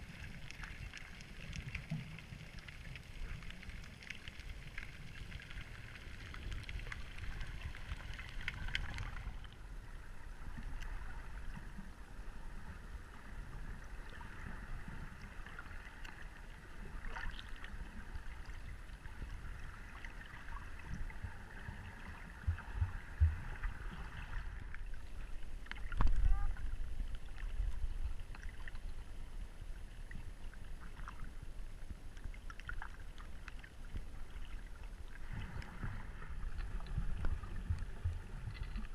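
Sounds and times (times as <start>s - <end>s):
underwater rumble of moving water: 0.0s - 38.9s.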